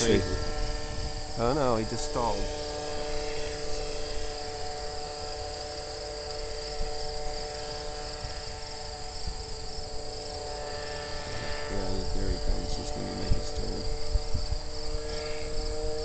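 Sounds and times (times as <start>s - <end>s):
crickets trilling: 0.0s - 16.0s
distant model aircraft motor drone: 0.0s - 16.0s.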